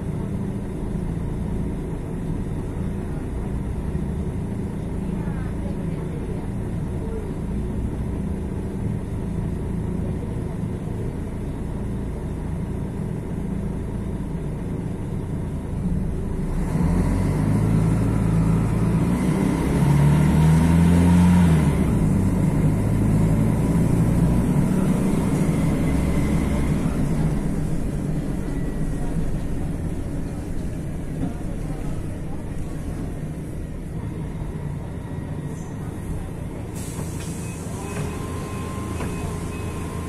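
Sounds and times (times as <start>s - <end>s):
bus diesel engine running: 0.0s - 40.0s.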